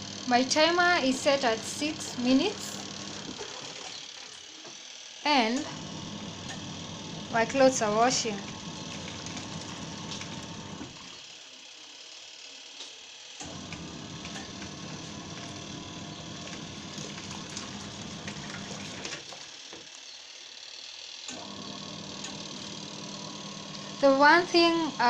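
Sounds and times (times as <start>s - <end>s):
washing machine agitating clothes: 0.0s - 11.4s, 13.4s - 19.9s, 21.3s - 25.0s.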